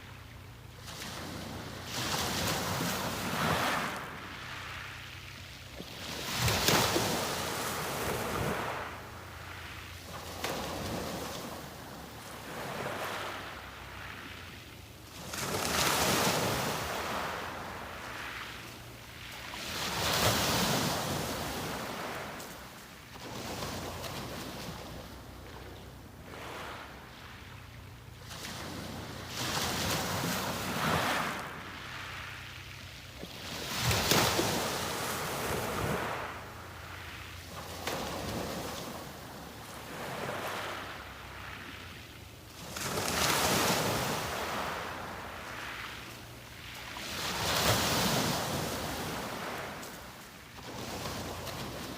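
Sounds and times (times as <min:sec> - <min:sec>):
sea waves breaking on beach: 0:00.0 - 0:51.9.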